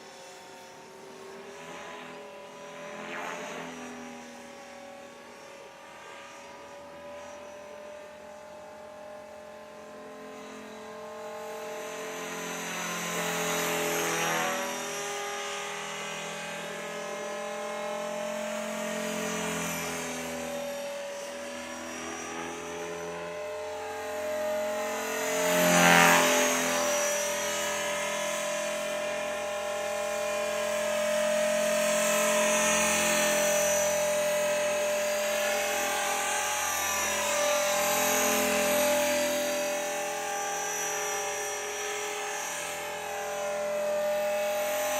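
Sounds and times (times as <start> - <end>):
rc helicopter motor and rotor whine: 0.0 - 44.9.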